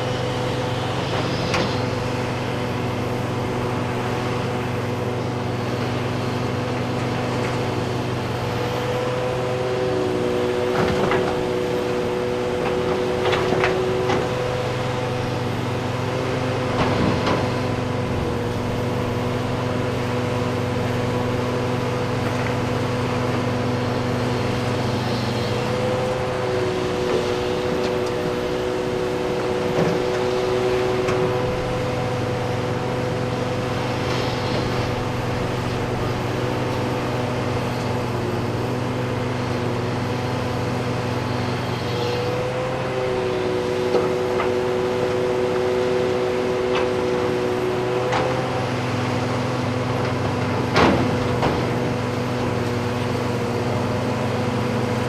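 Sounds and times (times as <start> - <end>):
heavy diesel machinery engines: 0.0 - 55.0.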